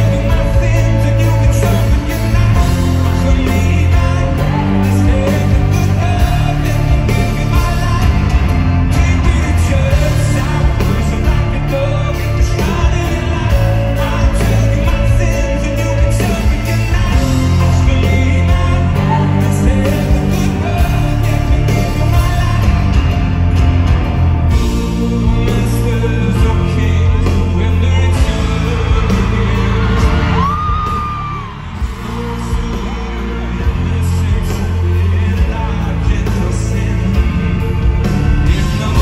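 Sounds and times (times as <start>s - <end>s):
man singing: 0.0s - 23.9s, 24.5s - 39.0s
live band playing: 0.0s - 39.0s.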